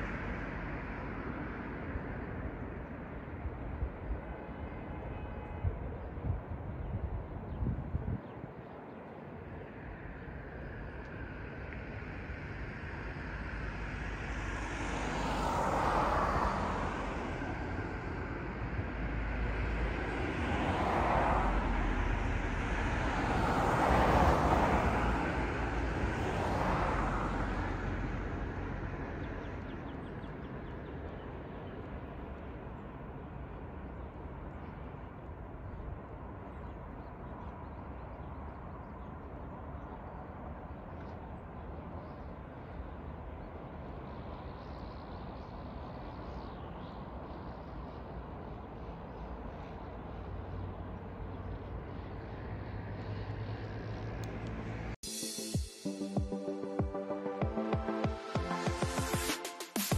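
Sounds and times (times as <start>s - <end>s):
traffic hum: 0.0s - 55.0s
vehicles passing: 0.0s - 55.0s.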